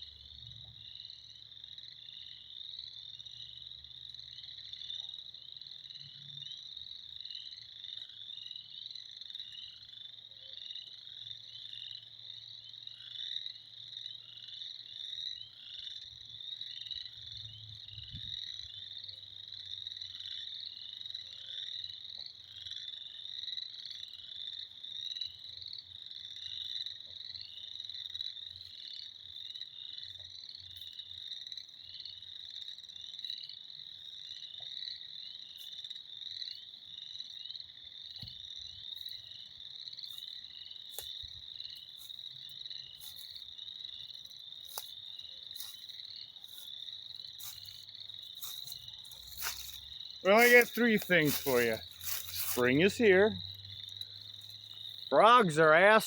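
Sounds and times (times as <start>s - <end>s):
chorus of frogs calling: 0.8s - 56.0s.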